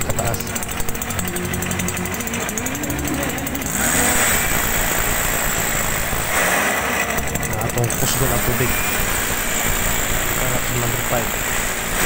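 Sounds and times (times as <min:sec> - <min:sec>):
two-stroke engine running: 0:00.0 - 0:12.0.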